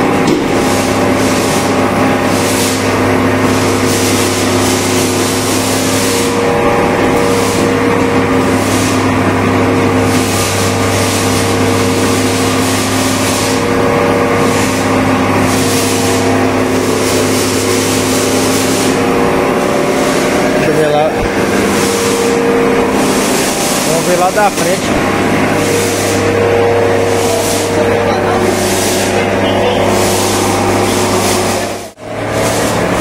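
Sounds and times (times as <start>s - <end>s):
motor humming: 0.0s - 33.0s.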